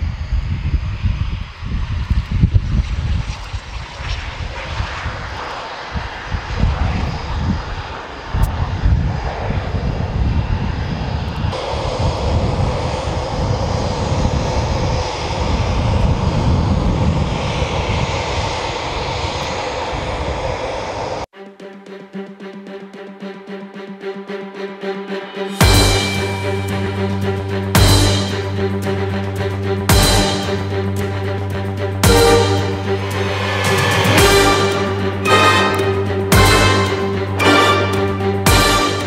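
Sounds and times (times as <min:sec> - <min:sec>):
jet engines whining on ground: 0:00.0 - 0:21.3, 0:24.8 - 0:39.0
jet takeoff rumble: 0:00.0 - 0:21.4, 0:22.1 - 0:39.0.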